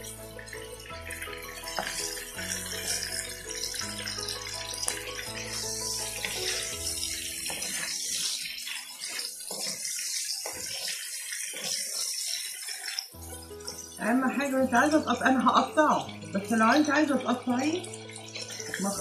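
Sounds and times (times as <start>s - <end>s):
background music: 0.0s - 19.0s
sausages sizzling in a frying pan: 0.0s - 19.0s.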